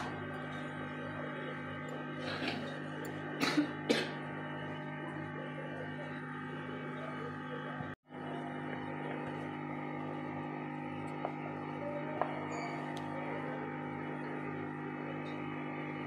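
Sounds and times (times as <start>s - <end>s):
steady hum of held tones: 0.0s - 16.0s.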